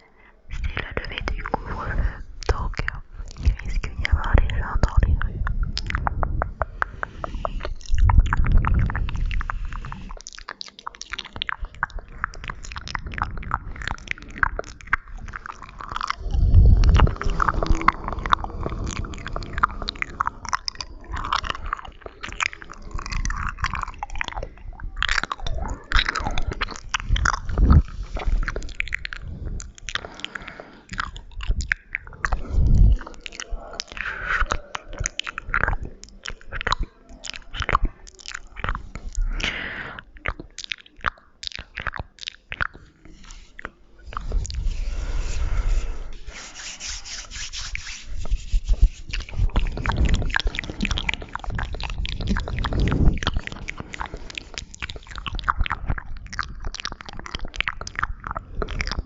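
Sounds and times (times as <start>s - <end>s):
wet mouth clicks and smacks: 0.0s - 59.0s.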